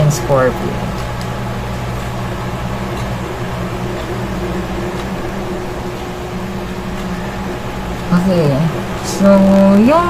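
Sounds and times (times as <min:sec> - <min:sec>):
household appliance humming: 0:00.0 - 0:10.0.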